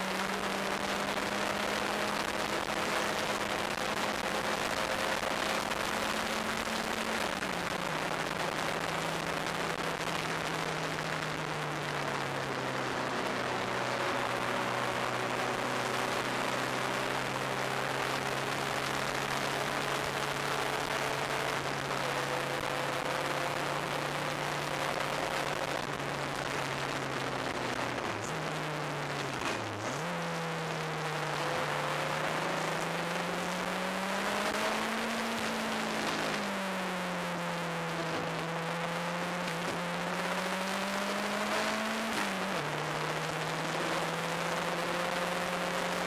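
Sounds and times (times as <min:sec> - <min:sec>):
race car engine at speed: 0:00.0 - 0:46.0.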